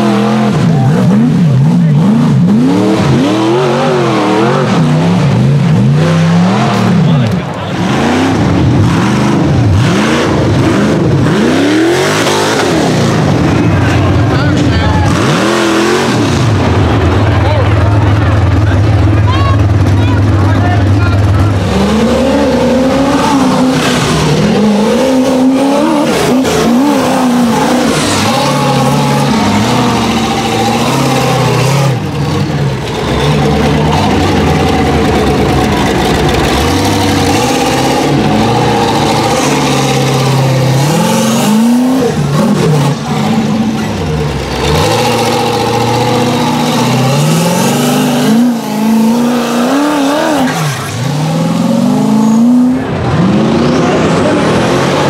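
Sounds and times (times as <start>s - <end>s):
buggy engine revving hard: 0.0s - 55.0s.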